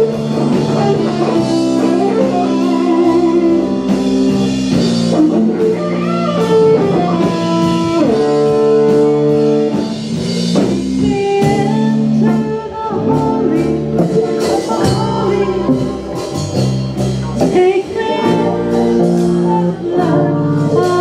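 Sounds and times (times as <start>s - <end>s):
drum kit beat: 0.0s - 21.0s
electric guitar: 0.0s - 21.0s.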